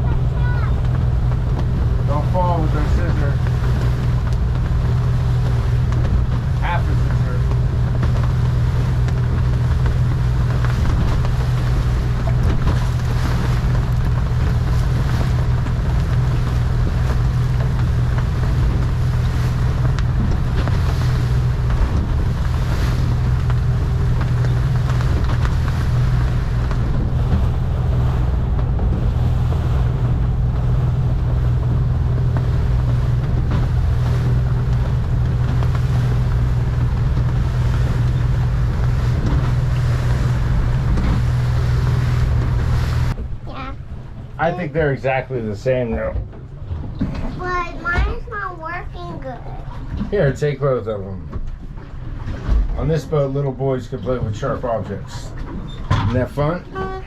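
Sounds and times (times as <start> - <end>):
wind buffeting microphone: 0.0 - 54.4
boat engine humming: 0.0 - 57.0
water rushing along hull: 0.0 - 57.0.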